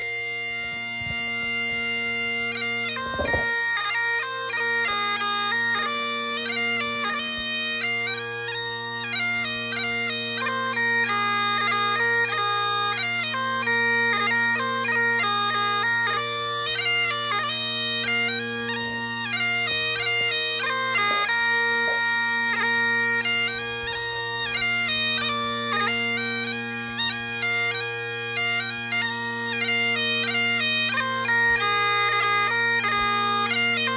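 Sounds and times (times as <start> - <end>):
bagpipes playing a march: 0.0 - 33.9.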